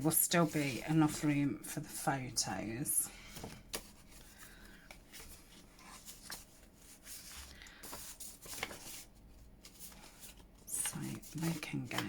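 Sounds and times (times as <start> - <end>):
paper rubbing and rustling: 0.0 - 2.1, 3.3 - 12.0.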